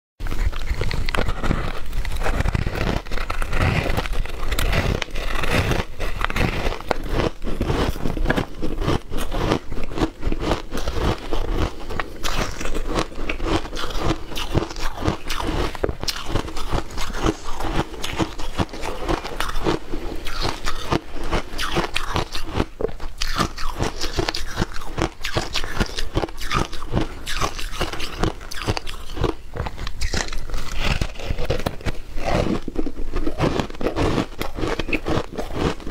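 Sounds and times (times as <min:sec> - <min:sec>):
ice crunching while chewed: 0:00.2 - 0:35.9.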